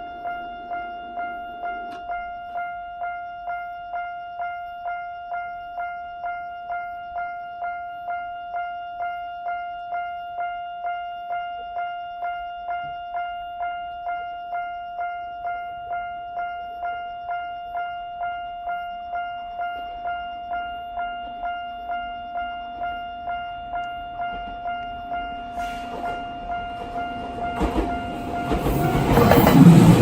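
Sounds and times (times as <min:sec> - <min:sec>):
electronic crossing warning bell: 0:00.0 - 0:30.0.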